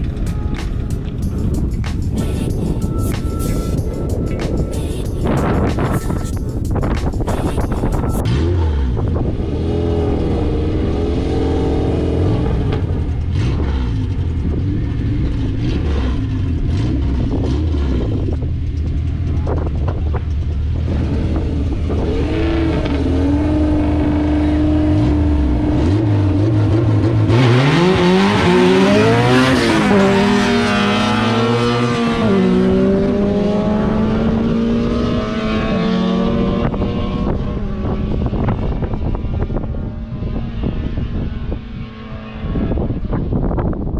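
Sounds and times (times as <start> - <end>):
car engine revving: 0.0 - 43.4.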